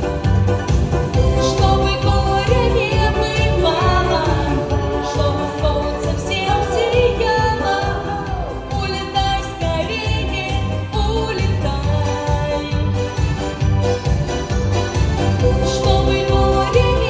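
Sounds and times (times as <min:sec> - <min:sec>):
person singing pop song: 0:00.0 - 0:14.4, 0:15.0 - 0:17.0
backing track with steady beat: 0:00.0 - 0:17.0.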